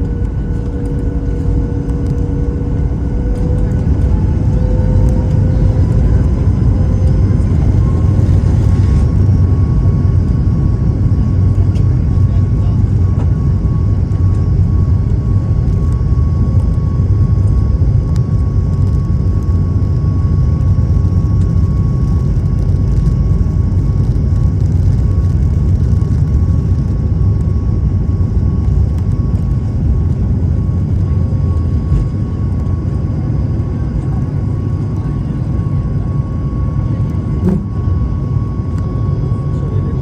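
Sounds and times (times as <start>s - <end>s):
jet engines at takeoff power: 0.0s - 40.0s.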